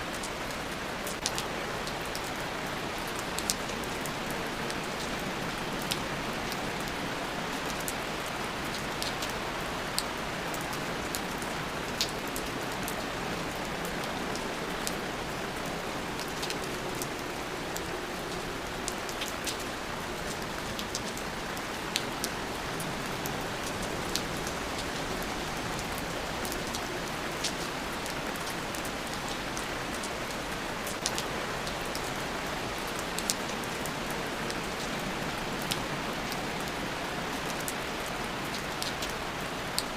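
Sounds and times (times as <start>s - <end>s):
steady rain hiss: 0.0s - 39.9s
raindrops ticking close by: 0.1s - 39.9s.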